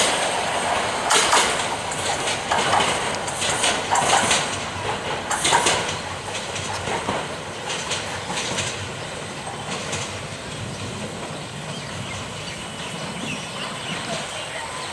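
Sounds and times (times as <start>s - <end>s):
train wheels clacking over rail joints: 0.0s - 14.4s.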